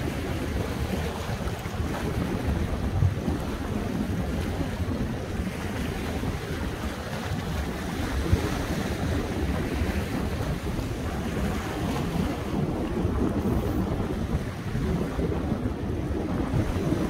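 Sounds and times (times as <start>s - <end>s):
sea surf washing on shore: 0.0s - 17.0s
wind buffeting microphone: 0.0s - 17.0s.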